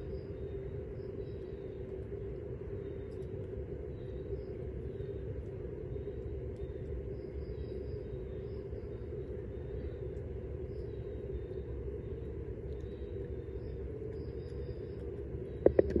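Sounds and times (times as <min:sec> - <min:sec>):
low outdoor rumble and hum: 0:00.0 - 0:16.0.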